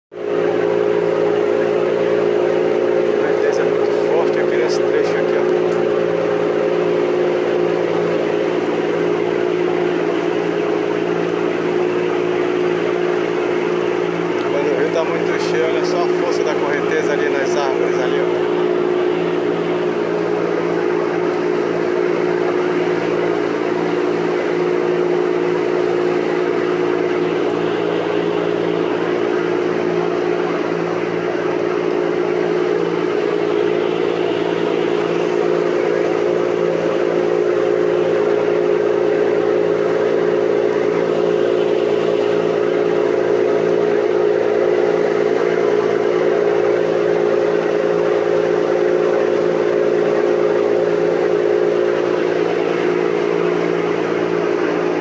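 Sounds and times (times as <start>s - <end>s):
boat engine running: 0.1s - 55.0s.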